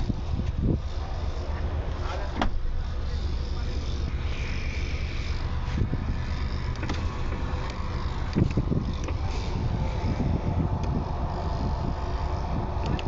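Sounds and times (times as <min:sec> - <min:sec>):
vehicle motor rumbling: 0:00.0 - 0:13.0.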